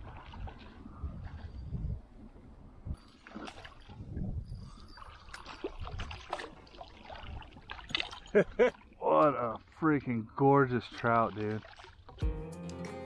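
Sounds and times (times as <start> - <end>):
water splashing and trickling: 0.0 - 12.2.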